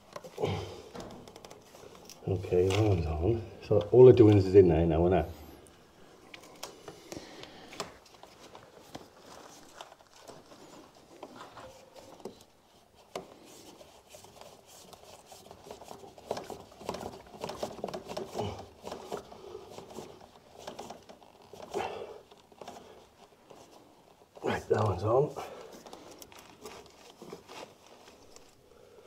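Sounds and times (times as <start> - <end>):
plastic pipe clicks and scrapes: 0.0 - 3.1, 6.2 - 28.6.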